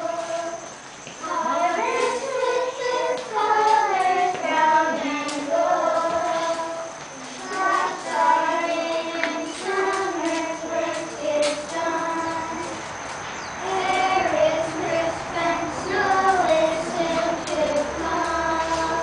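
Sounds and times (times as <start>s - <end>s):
children singing together: 0.0s - 19.0s.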